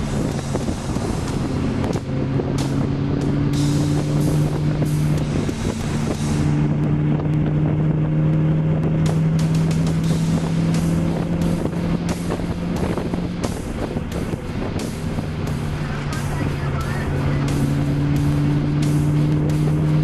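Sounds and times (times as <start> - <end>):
car engine drone: 0.0 - 20.0
wind and road noise: 0.0 - 20.0.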